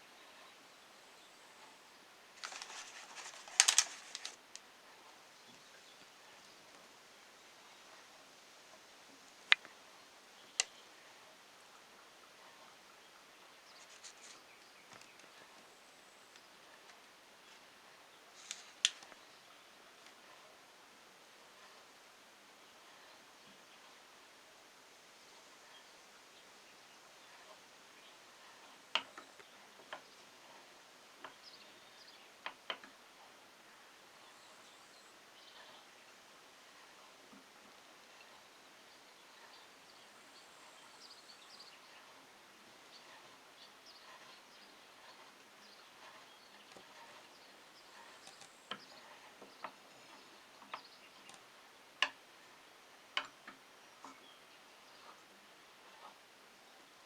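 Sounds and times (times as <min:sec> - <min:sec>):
faint outdoor background: 0:00.0 - 0:57.0
faint steady hiss: 0:00.0 - 0:57.0.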